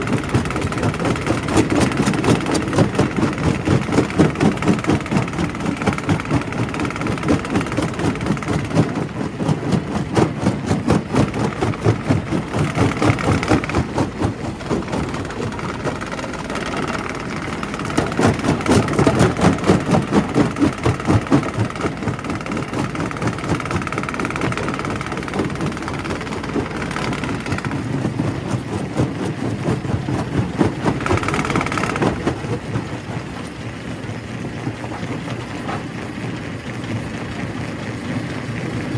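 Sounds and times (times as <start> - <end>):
rock crusher running: 0.0 - 38.9.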